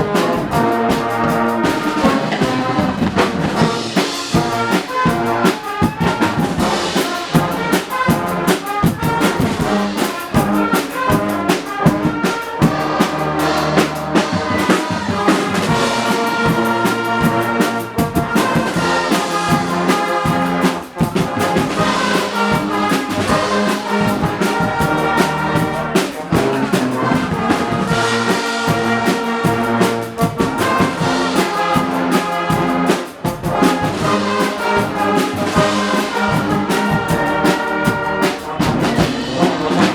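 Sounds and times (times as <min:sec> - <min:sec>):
steady drumbeat: 0:00.0 - 0:39.9
trumpets and trombones: 0:00.0 - 0:39.9.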